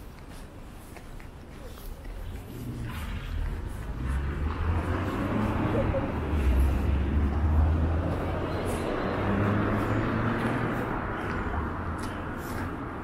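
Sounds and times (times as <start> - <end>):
motor vehicle passing: 2.1 - 13.0.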